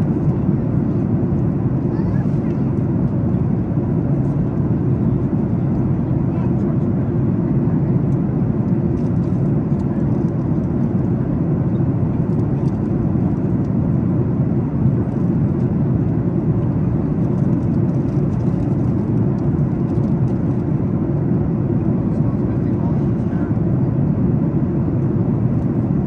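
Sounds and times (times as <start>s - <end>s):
airplane cabin drone: 0.0s - 26.0s.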